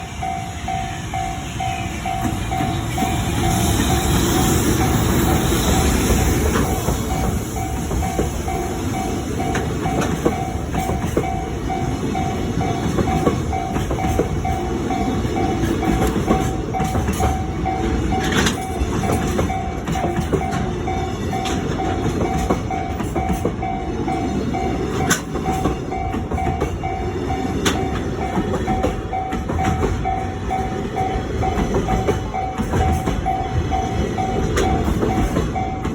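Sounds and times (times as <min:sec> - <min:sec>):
crossing warning bell ringing: 0:00.0 - 0:35.9
train wheels clattering: 0:00.0 - 0:35.9.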